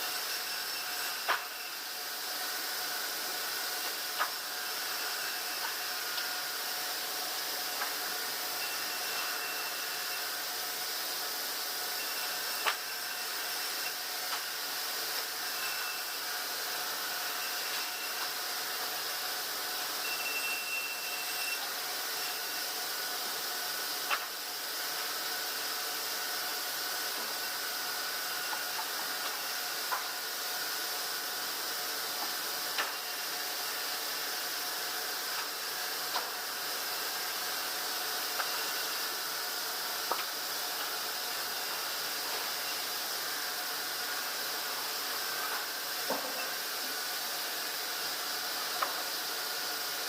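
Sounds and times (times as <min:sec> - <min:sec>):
sawmill machinery hissing: 0:00.0 - 0:50.0.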